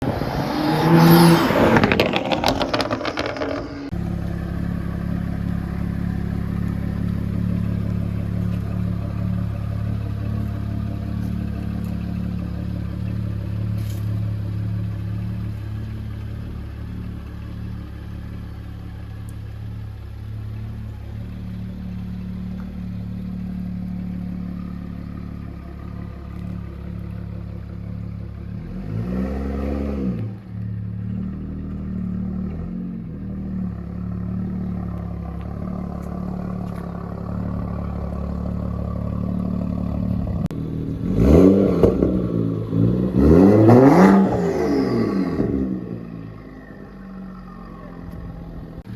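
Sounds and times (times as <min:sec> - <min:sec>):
car engine starting and idling: 0:00.0 - 0:48.9.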